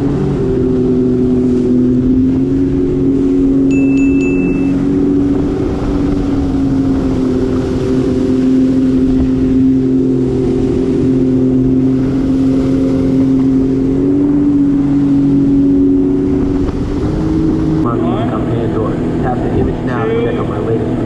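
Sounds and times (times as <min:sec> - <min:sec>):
jet ski engine cruising: 0:00.0 - 0:21.0
water rushing along hull: 0:00.0 - 0:21.0.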